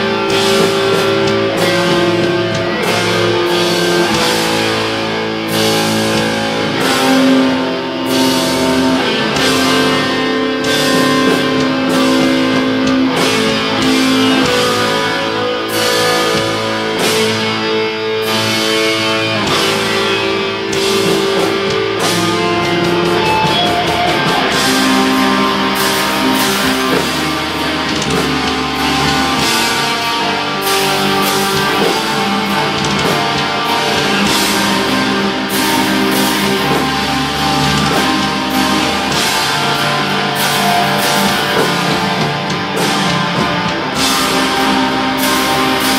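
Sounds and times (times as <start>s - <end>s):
distorted electric guitars: 0.0s - 45.9s
drums: 0.0s - 45.9s
keyboard: 0.0s - 45.9s.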